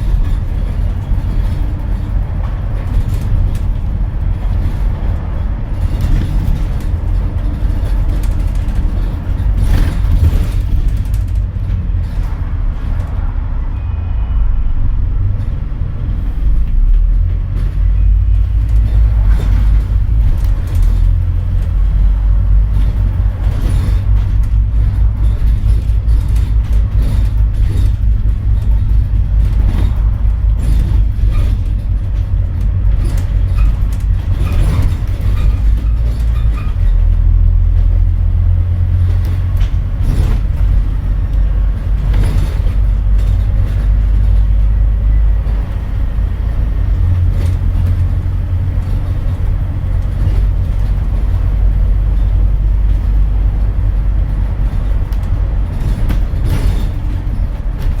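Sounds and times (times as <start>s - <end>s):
interior rattles: 0.0s - 13.6s, 15.1s - 58.0s
bus diesel engine pulling hard: 0.0s - 58.0s.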